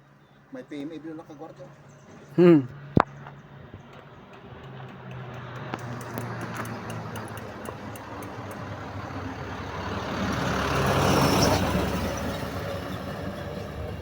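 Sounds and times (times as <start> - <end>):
vehicle passing: 2.3 - 14.0.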